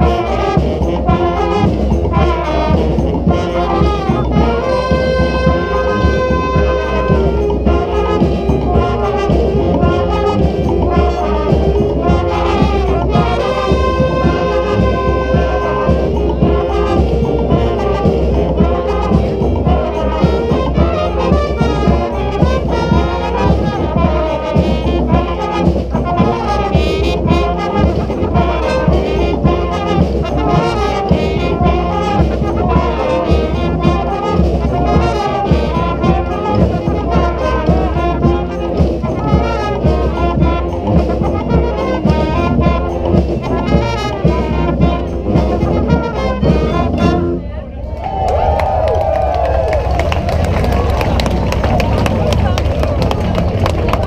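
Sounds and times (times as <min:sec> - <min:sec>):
brass band playing afrobeat: 0:00.0 - 0:54.0
drums: 0:00.0 - 0:54.0.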